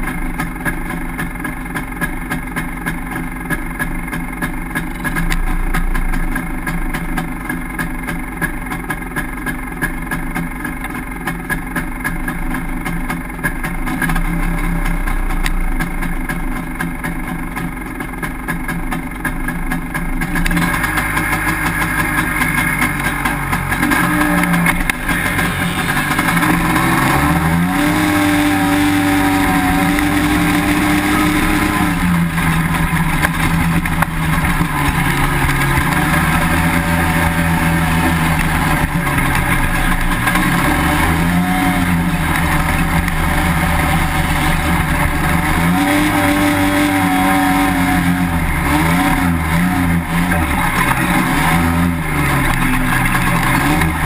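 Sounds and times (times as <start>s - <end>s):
single-cylinder engine revving: 0.0s - 54.0s.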